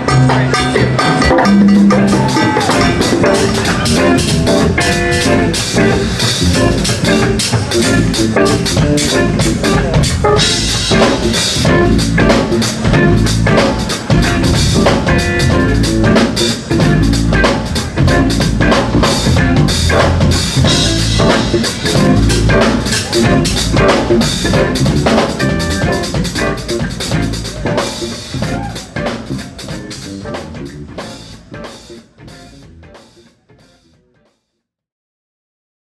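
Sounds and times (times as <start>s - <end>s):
music with drum kit: 0.0s - 34.4s.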